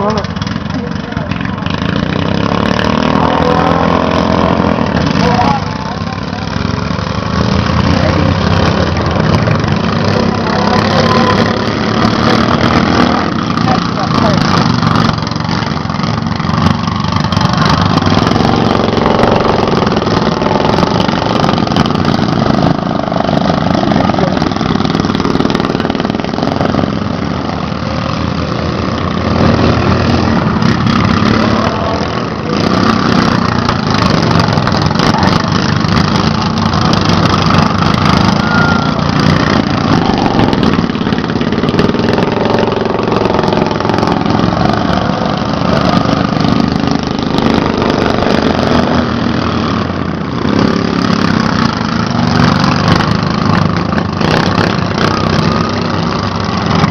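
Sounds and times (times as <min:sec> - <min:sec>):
lawn mower engines racing: 0:00.0 - 0:56.9.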